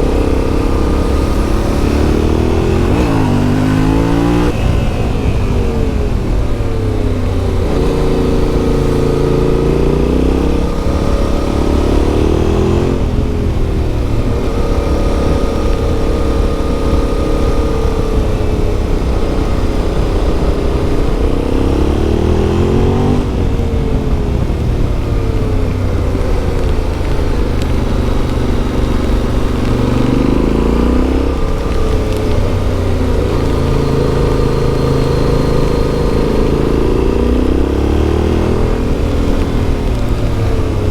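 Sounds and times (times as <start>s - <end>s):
motorcycle engine revving under load: 0.0s - 40.9s.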